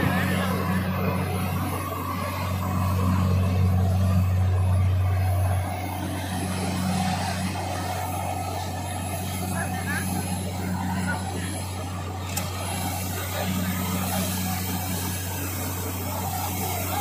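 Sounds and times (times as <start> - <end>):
drilling rig humming: 0.0 - 17.0.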